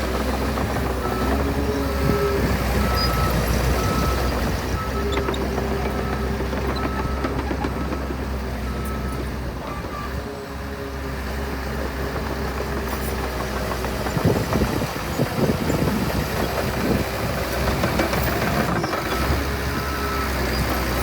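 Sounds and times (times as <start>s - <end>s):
loud irregular knocks and rumbling: 0.0s - 9.6s, 11.8s - 21.0s
diesel engine droning: 0.0s - 21.0s.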